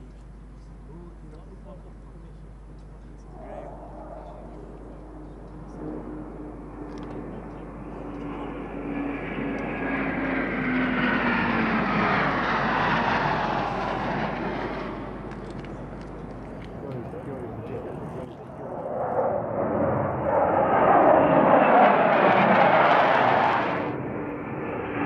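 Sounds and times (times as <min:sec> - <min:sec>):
jet fighters passing overhead: 0:03.1 - 0:25.0.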